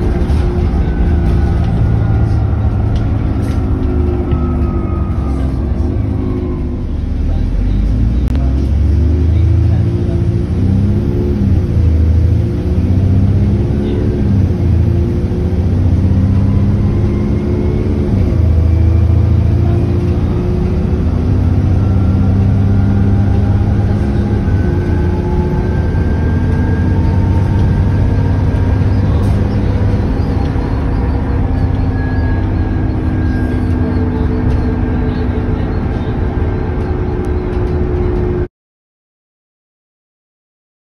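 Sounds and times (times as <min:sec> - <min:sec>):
bus diesel engine accelerating: 0:00.0 - 0:38.5.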